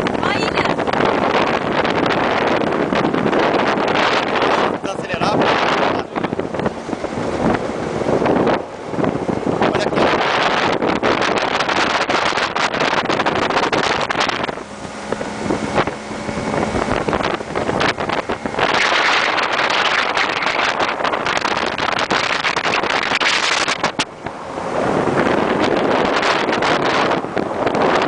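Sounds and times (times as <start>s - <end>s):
motorboat engine: 0.0s - 28.0s
water rushing: 0.0s - 28.0s
wind buffeting microphone: 0.0s - 28.0s.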